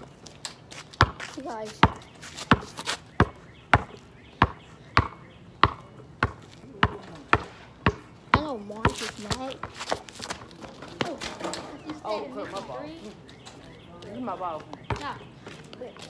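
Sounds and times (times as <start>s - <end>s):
basketball bouncing on pavement: 0.2s - 12.0s, 14.0s - 16.0s.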